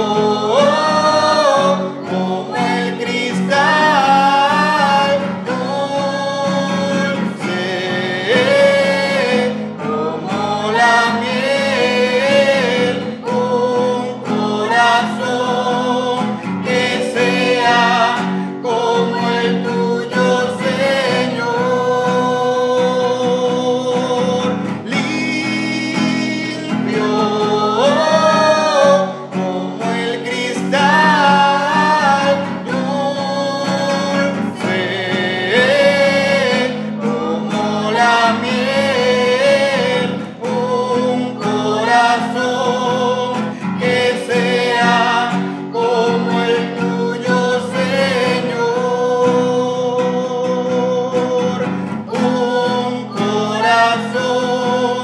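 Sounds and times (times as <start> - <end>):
guitar accompaniment: 0.0 - 55.0
person singing a hymn: 0.0 - 55.0.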